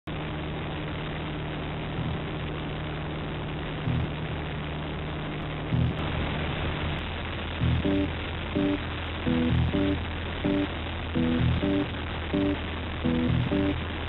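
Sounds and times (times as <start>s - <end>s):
light aircraft engine drone: 0.1s - 14.0s.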